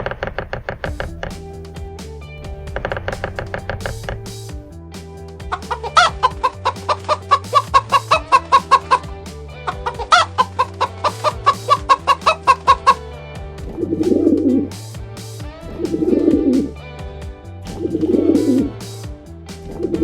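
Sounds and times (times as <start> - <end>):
background music low notes: 0.7 - 20.0.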